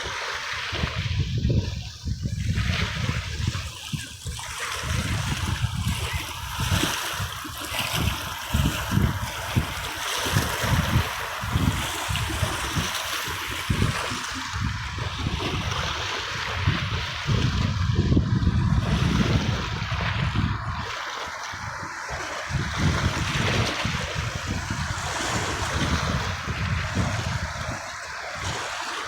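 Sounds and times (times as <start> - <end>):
sea waves splashing on shore: 0.0 - 29.0.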